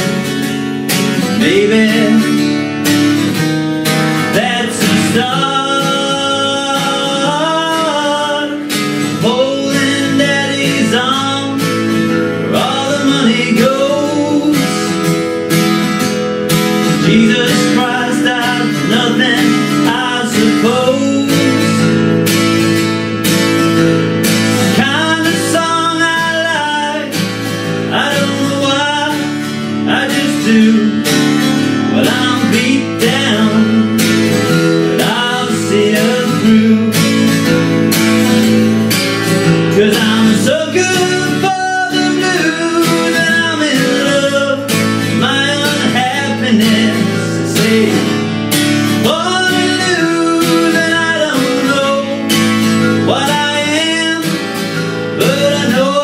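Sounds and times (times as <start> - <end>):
bending guitar lead melody: 0.0 - 56.0
strummed acoustic guitar: 0.0 - 56.0.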